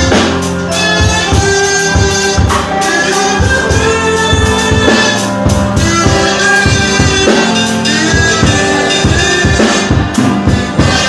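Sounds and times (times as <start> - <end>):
drum kit beat: 0.0 - 11.0
worship band music: 0.0 - 11.0.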